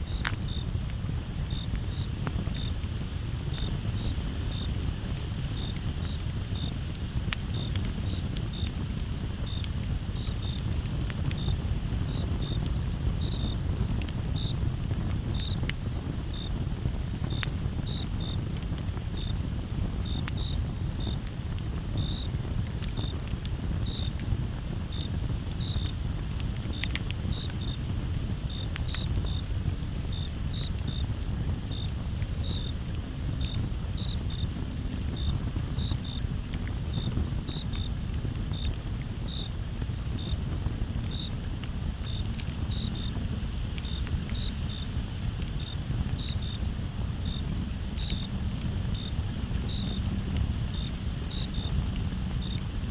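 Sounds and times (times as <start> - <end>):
campfire crackling: 0.0 - 52.9
crickets chirping: 0.0 - 52.9.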